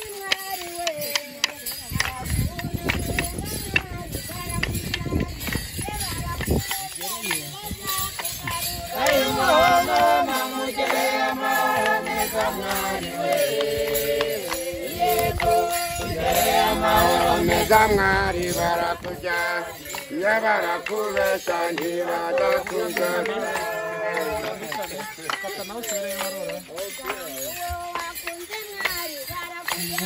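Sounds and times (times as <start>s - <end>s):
group of voices singing: 0.0s - 30.0s.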